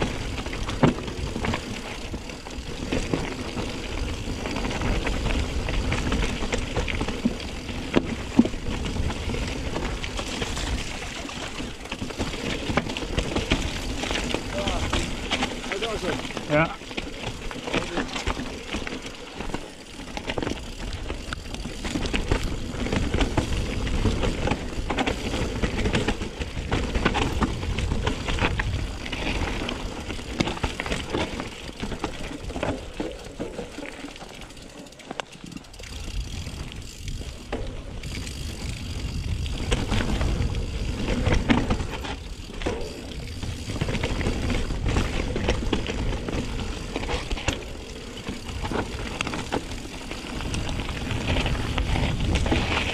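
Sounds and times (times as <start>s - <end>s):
bike rattling and knocking: 0.0s - 52.9s
bike tyre noise on trail: 0.0s - 52.9s.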